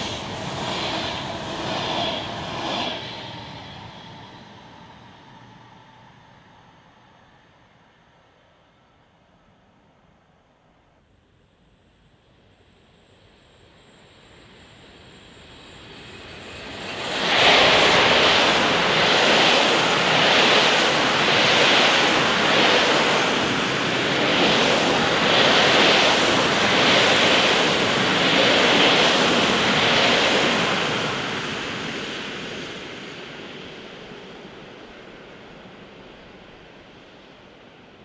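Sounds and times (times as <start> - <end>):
train wheels rushing on rails: 0.0 - 7.8, 12.5 - 38.0.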